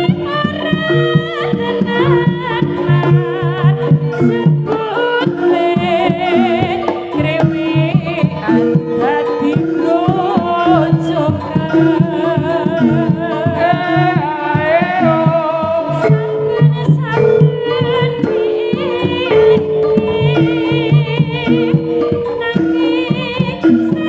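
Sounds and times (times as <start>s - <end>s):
hand drums playing: 0.0s - 24.0s
high wavering melody: 0.0s - 24.0s.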